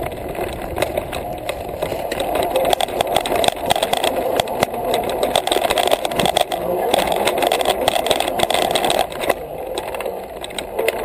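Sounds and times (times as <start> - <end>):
bike rattling over rock: 0.0 - 11.0
electric hub motor whining: 0.0 - 11.0.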